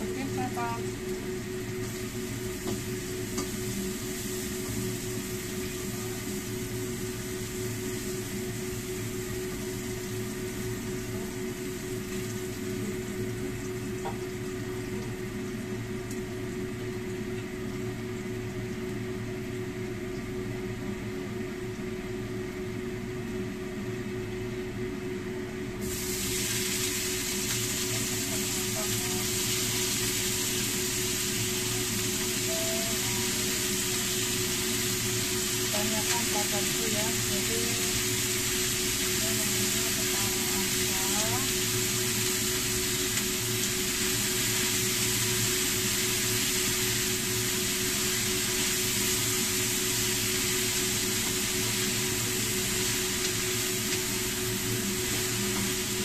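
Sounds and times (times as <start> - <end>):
vegetables sizzling in a wok: 0.0 - 23.9, 25.6 - 56.0
steady background hum: 0.0 - 56.0.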